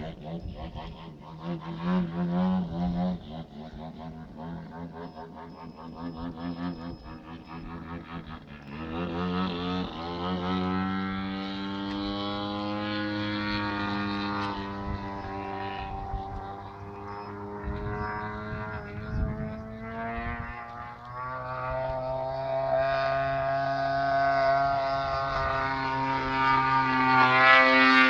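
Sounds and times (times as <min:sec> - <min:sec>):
model aircraft engine running: 0:00.0 - 0:28.0.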